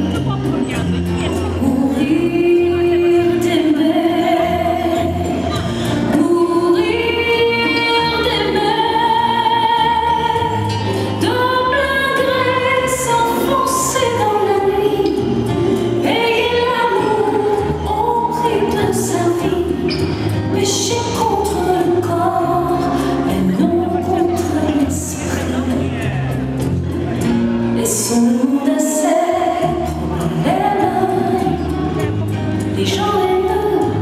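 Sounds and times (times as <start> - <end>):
ballroom rumba music: 0.0 - 34.0
bass line: 0.0 - 34.0.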